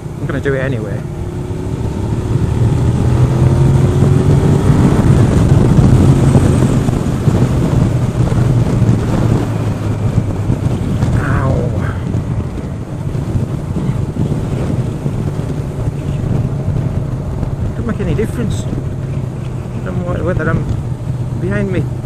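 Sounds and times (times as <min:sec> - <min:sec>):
wind rushing over helmet: 0:01.0 - 0:22.0.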